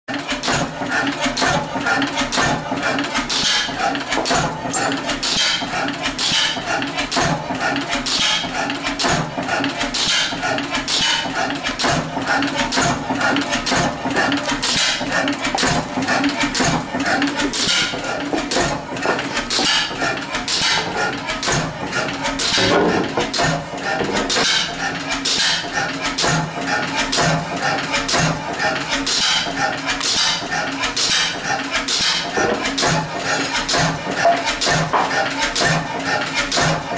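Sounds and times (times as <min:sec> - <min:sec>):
stationary engine clattering: 0:00.1 - 0:36.9.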